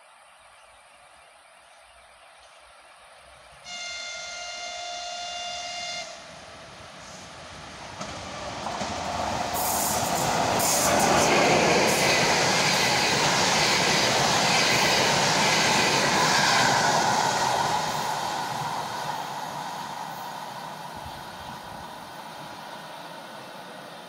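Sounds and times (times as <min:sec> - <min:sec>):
train passing at speed: 0:03.0 - 0:24.0.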